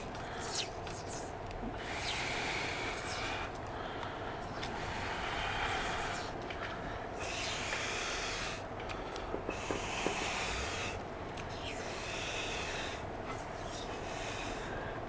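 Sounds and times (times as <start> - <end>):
tape pulled off roll hissing: 0.0 - 8.7, 9.4 - 14.8
faint steady hum: 0.0 - 15.0.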